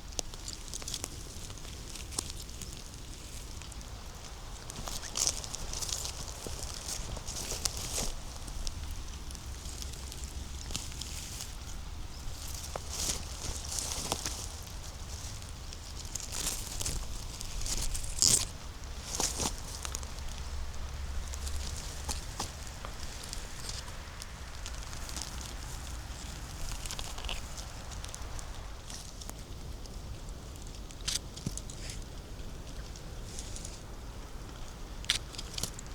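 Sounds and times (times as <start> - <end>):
low steady rumble: 0.0 - 35.9
footsteps crunching through leaves: 0.2 - 29.4.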